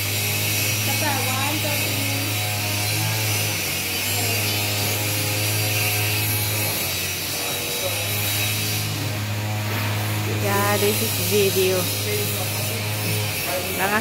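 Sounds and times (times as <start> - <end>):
rasping hiss: 0.0 - 14.0.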